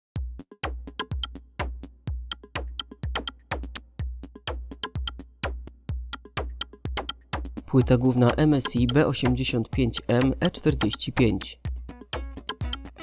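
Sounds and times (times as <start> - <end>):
electronic music with drum-machine beat: 0.2 - 13.0.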